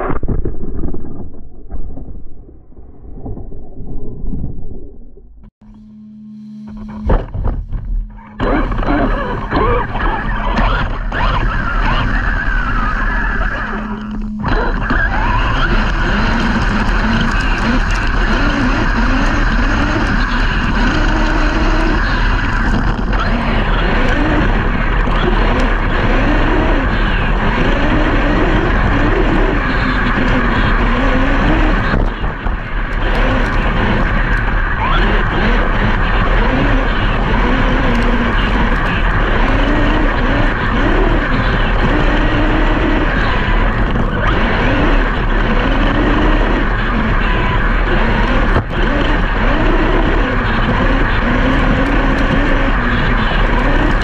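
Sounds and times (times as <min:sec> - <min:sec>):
tyres rumbling on dirt: 0:05.4 - 0:54.0
electric motor whine: 0:05.6 - 0:54.0.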